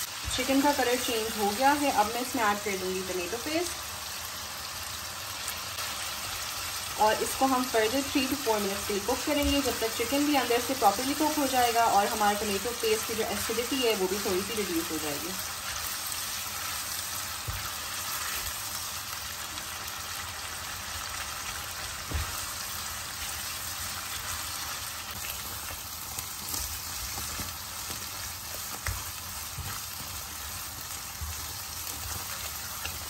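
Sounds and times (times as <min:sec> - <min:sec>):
chicken sizzling in oil: 0:00.0 - 0:33.0.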